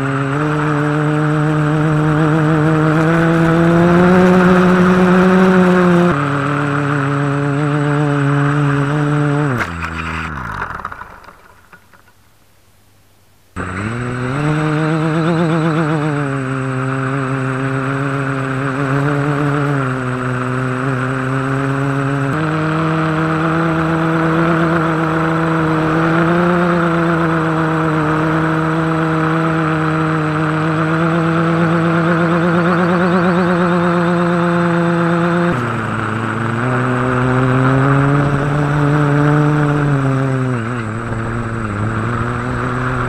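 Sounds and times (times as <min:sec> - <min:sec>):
quadcopter propellers whining: 0:00.0 - 0:12.2, 0:13.6 - 0:43.0.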